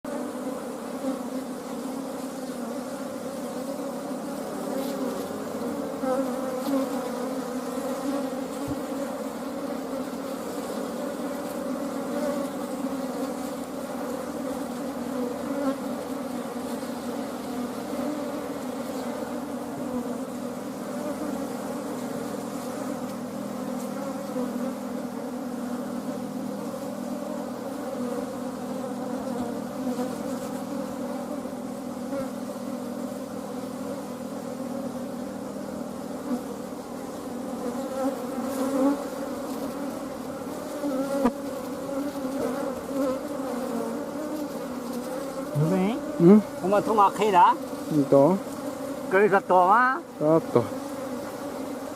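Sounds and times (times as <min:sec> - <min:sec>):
honeybees buzzing: 0:00.0 - 0:51.9.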